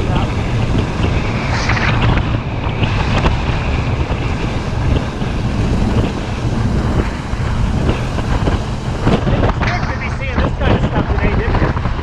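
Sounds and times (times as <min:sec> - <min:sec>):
motorcycle engine rumble: 0:00.0 - 0:12.0
wind rushing over microphone: 0:00.0 - 0:12.0.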